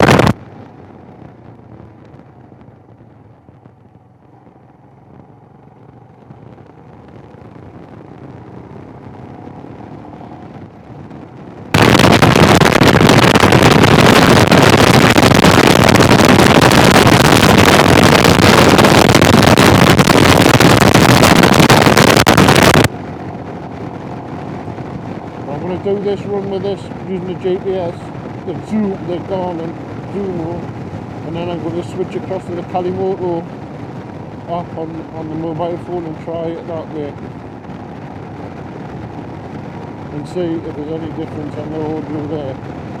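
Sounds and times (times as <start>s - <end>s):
motorcycle engine: 0.0s - 36.3s
road noise: 0.0s - 43.0s
wind noise on microphone: 0.0s - 43.0s.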